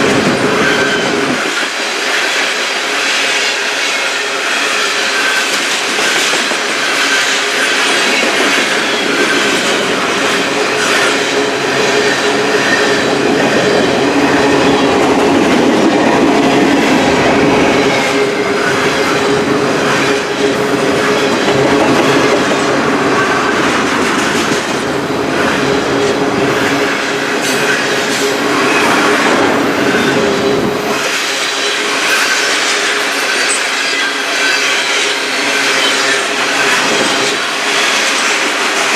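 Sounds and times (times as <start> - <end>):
freight train rolling past: 0.0 - 38.9
train wheels squealing: 0.0 - 38.9.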